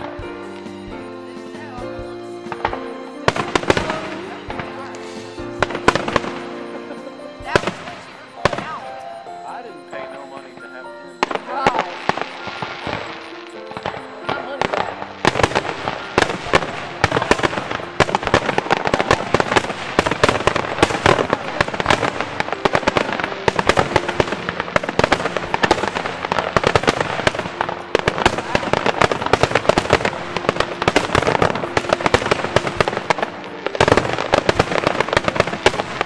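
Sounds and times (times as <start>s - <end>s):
fireworks bursting: 0.0s - 36.0s
fireworks crackle: 0.0s - 36.0s.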